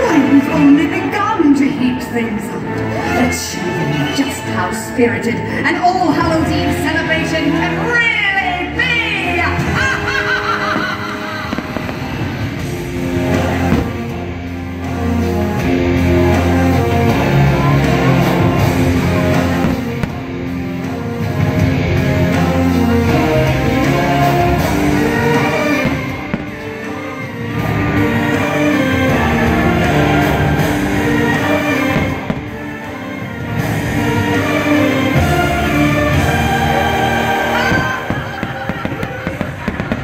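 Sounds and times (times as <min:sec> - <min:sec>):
fireworks show music playing loudly: 0:00.0 - 0:40.0.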